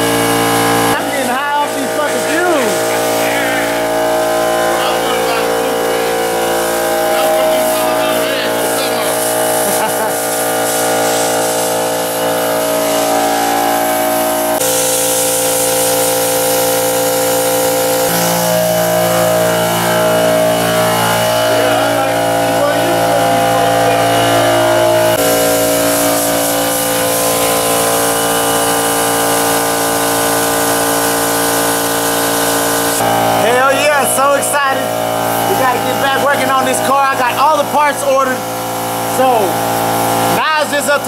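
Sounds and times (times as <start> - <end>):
air compressor running: 0.0 - 41.0
spray gun hissing: 0.1 - 41.0.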